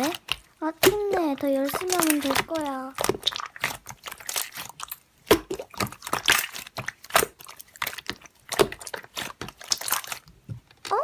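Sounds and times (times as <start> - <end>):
slime squeezed by hand crackling: 0.0 - 11.0.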